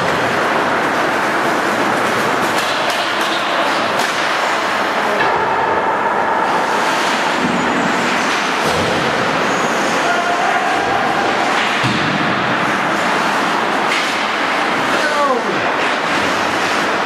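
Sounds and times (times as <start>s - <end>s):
skates scraping ice: 0.0s - 5.3s, 6.4s - 17.0s
hockey sticks and puck clacking: 0.0s - 5.7s, 6.5s - 17.0s.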